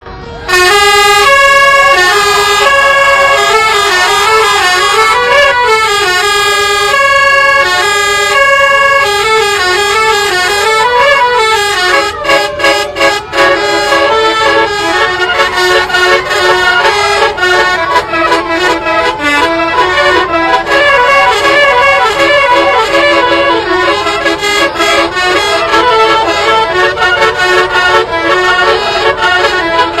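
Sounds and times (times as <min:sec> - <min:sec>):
musical bus horn melody: 0:00.0 - 0:30.0.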